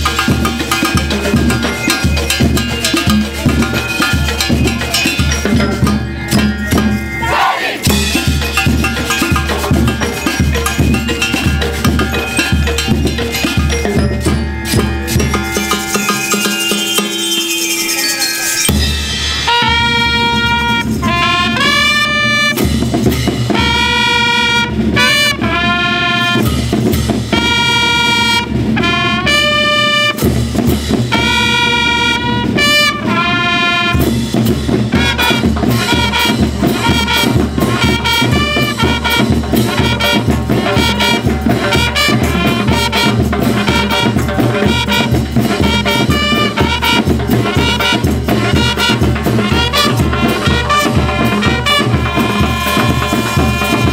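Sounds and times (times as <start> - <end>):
drum kit beat: 0.0 - 18.0, 18.7 - 53.9
trumpets playing: 7.1 - 18.2, 18.8 - 22.8, 23.5 - 26.5, 27.3 - 30.4, 31.0 - 53.9.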